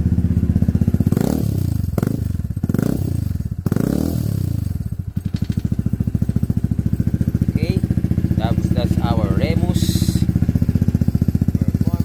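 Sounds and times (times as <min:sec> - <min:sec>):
scooter engine revving and idling: 0:00.0 - 0:12.0.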